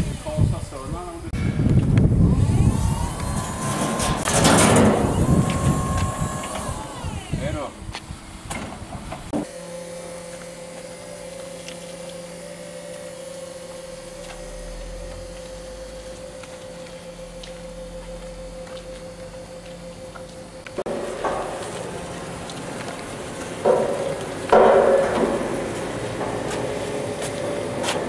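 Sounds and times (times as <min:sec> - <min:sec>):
electric forklift motor whine: 0:00.0 - 0:28.0.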